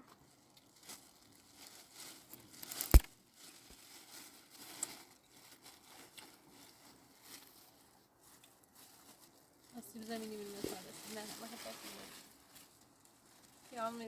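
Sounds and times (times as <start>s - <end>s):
rustling and crinkling handling noise: 0.0s - 14.0s.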